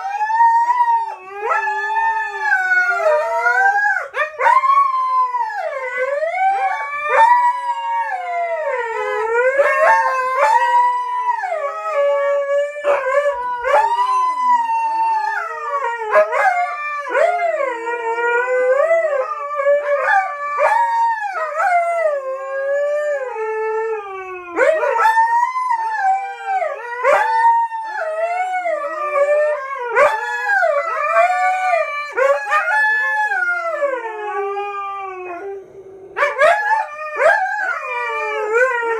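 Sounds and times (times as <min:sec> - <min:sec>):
dogs howling: 0:00.0 - 0:38.9.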